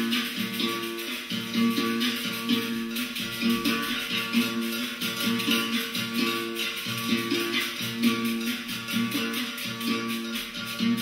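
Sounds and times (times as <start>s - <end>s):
percussion beat: 0.0s - 11.0s
plucked string instrument: 0.0s - 11.0s.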